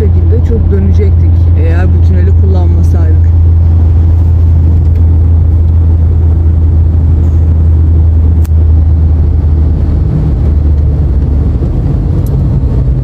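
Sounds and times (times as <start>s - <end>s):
car engine and tyre drone: 2.2s - 13.0s.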